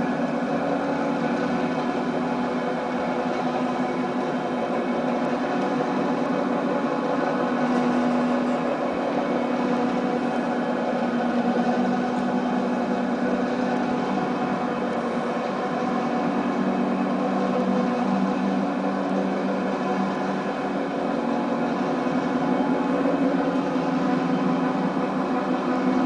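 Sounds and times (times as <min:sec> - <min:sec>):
lift engine droning: 0:00.0 - 0:26.0.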